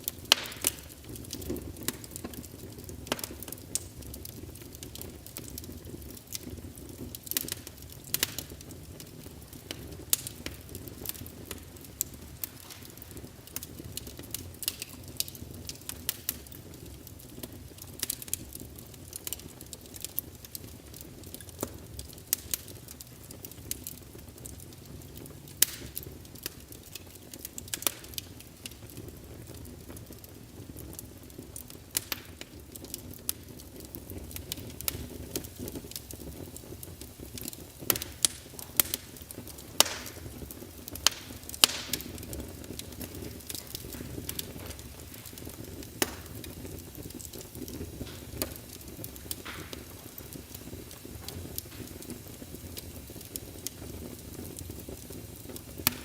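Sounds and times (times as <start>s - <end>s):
fire pops and snaps: 0.0s - 56.0s
low rumble of burning: 0.0s - 56.0s
wood fire crackling: 0.0s - 56.0s.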